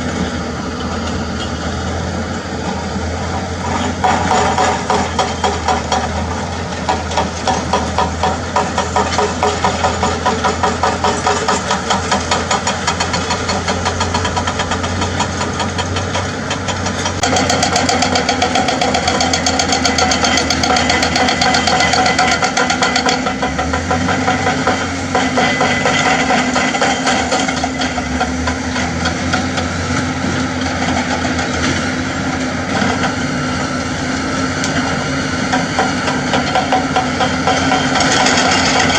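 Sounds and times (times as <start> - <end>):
excavator diesel engine throbbing: 0.0 - 38.9.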